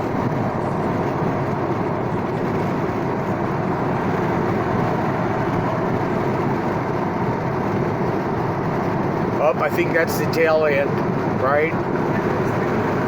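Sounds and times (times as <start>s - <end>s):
car road noise from cabin: 0.0s - 13.0s.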